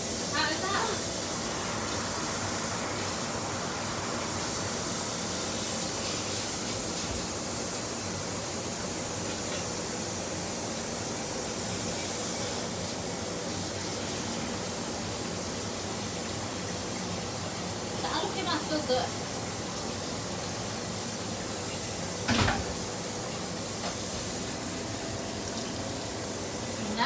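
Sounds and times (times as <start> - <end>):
hot oil sizzling: 0.0 - 27.0.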